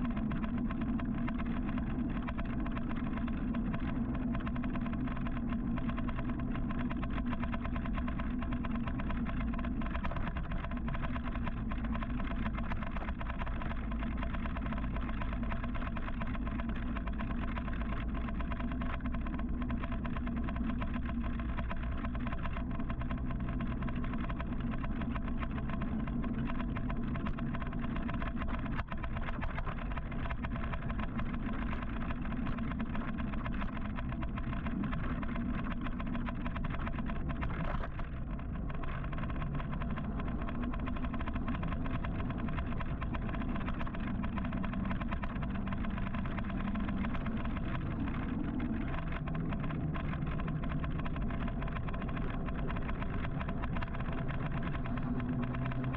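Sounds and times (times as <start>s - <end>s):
hum of surrounding vehicles: 0.0s - 55.9s
road and wind noise: 0.0s - 55.9s.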